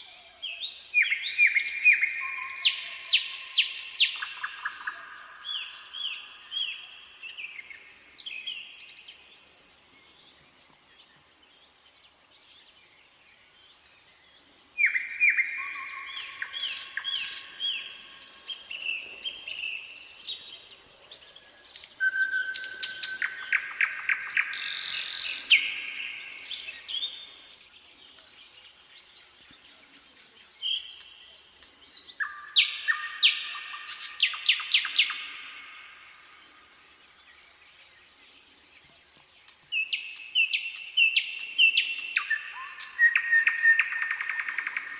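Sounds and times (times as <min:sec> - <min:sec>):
nightingale singing: 0:00.0 - 0:44.9.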